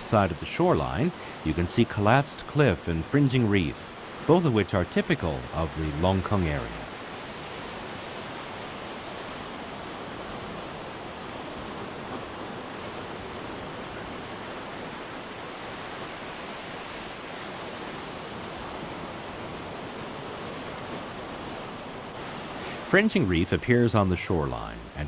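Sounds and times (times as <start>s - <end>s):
ocean surf rushing: 0.0s - 25.0s.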